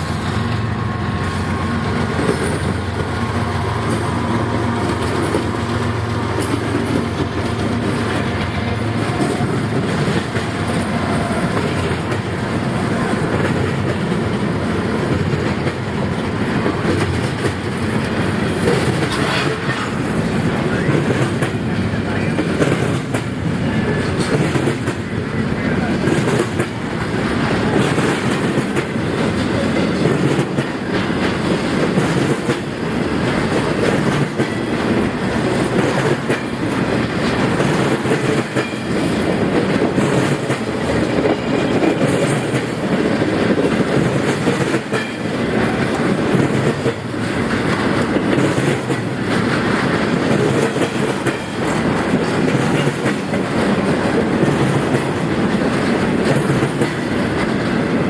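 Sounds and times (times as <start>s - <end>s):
train rumble: 0.0s - 58.0s
train wheels clacking over rail joints: 0.0s - 58.0s.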